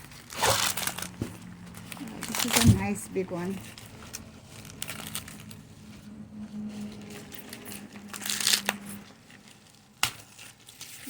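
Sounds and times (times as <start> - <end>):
corn husk tearing: 0.0 - 11.0.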